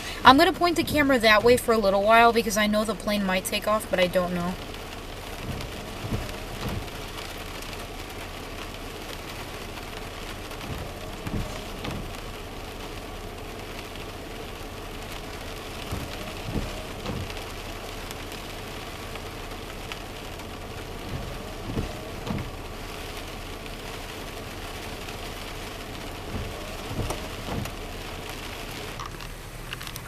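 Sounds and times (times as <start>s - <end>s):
rain on car roof: 0.0s - 30.0s
windshield wipers thumping: 0.0s - 30.0s.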